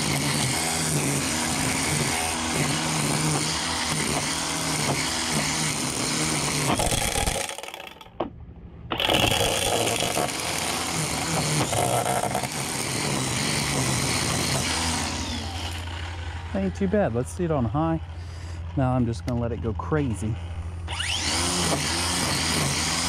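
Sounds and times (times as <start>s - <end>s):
string trimmer running: 0.0s - 8.2s, 8.9s - 16.9s, 20.4s - 23.0s.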